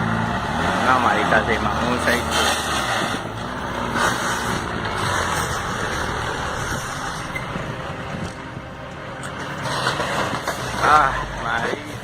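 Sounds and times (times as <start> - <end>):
heavy truck engine running: 0.0 - 12.0
outdoor noise: 0.0 - 12.0.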